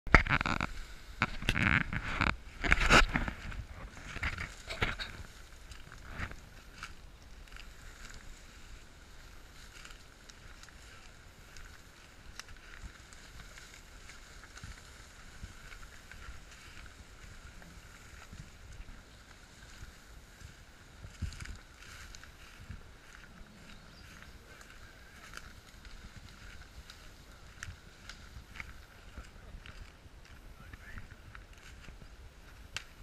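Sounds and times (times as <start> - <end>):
tall grass rustling: 0.1 - 33.0
steady high hiss: 0.6 - 33.0.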